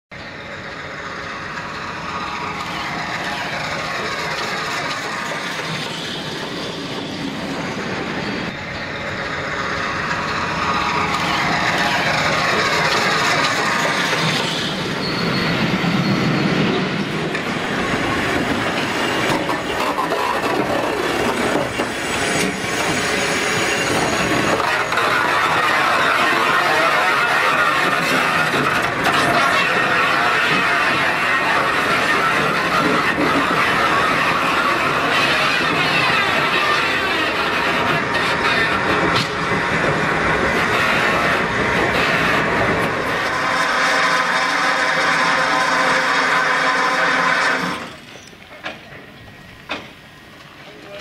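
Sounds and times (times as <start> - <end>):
train wheels clickety-clack: 1.4 - 8.6, 9.3 - 51.0.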